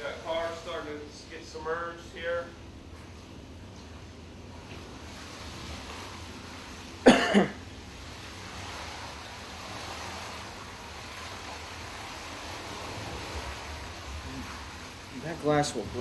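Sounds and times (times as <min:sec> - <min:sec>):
hurricane wind rushing: 0:00.0 - 0:07.0, 0:07.7 - 0:16.0
storm water rushing: 0:00.0 - 0:16.0.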